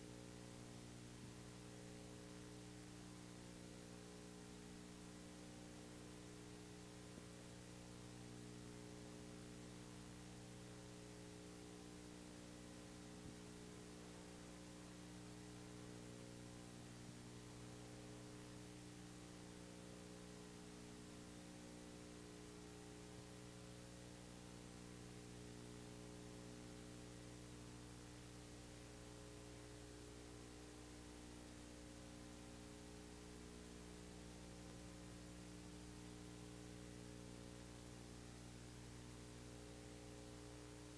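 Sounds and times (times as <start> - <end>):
faint hiss: 0.0 - 40.9
steady electrical hum: 0.0 - 40.9.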